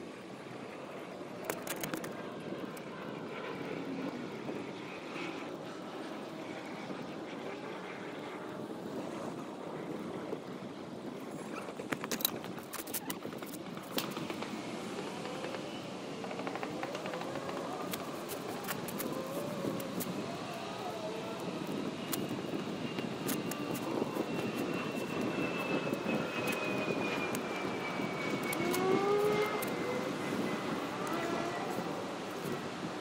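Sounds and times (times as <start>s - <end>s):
airplane passing overhead: 0.0s - 33.0s.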